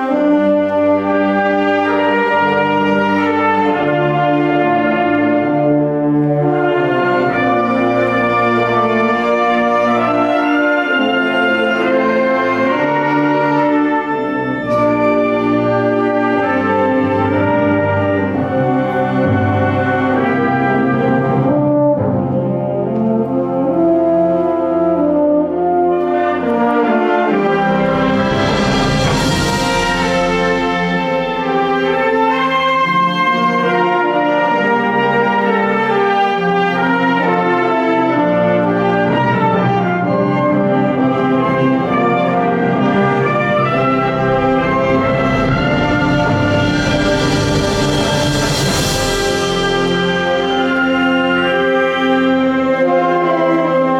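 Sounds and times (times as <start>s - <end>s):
wind band playing brass chords: 0.0s - 53.9s.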